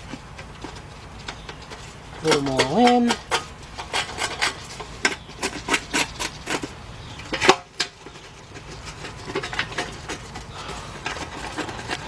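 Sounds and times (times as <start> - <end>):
metal pan and bolts clicking: 0.3 - 12.0.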